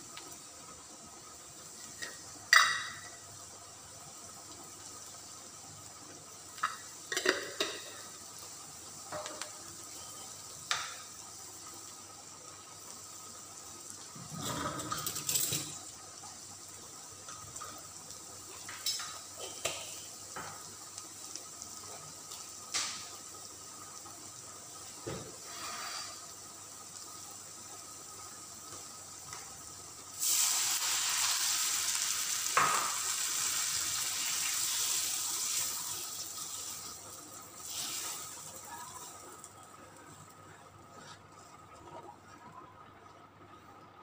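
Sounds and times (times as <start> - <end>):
onions sizzling: 0.0 - 41.8.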